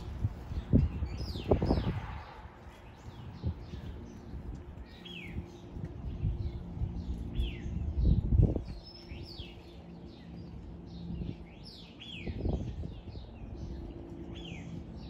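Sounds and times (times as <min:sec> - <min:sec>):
low rumble with hum: 0:00.0 - 0:15.0
small birds chirping: 0:00.0 - 0:15.0.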